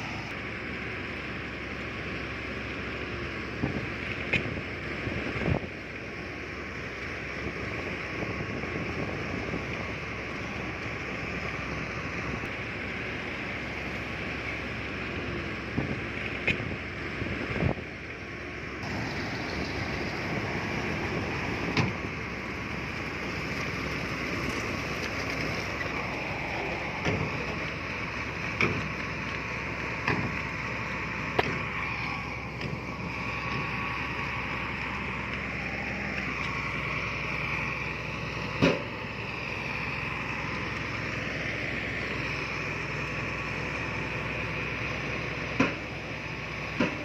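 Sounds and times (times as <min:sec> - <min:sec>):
heavy machinery running: 0:00.0 - 0:47.0.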